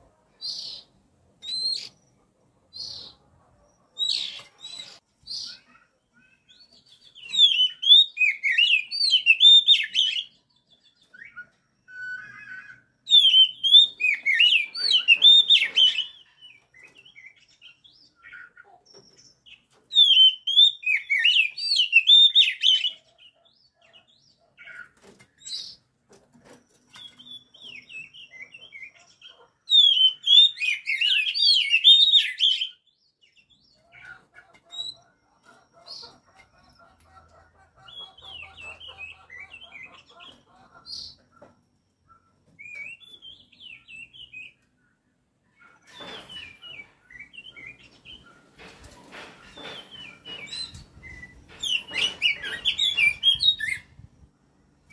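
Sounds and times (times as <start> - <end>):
bird chirps and calls: 0.3 - 54.3
bird warbling song: 3.8 - 54.9.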